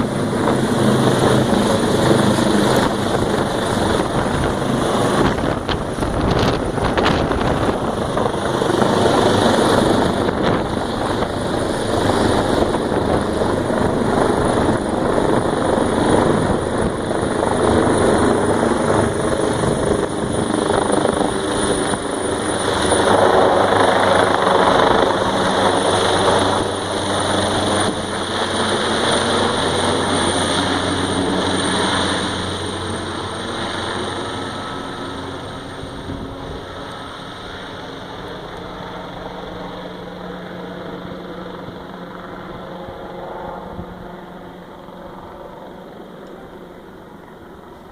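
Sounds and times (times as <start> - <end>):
helicopter rotor and turbine whine: 0.0 - 47.9.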